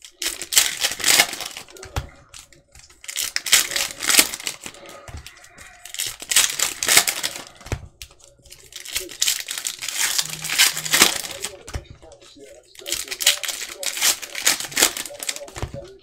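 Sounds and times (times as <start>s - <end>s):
plastic wrappers crinkling: 0.0s - 16.0s.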